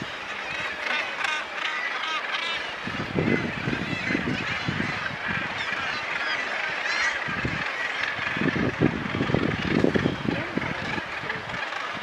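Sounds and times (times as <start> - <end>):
seabirds crying: 0.0 - 12.0.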